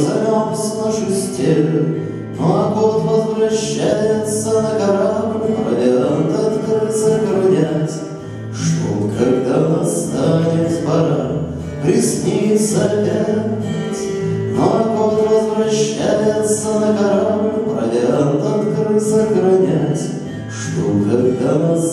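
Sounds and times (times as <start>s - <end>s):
man singing: 0.0s - 21.9s
strummed acoustic guitar: 0.0s - 21.9s.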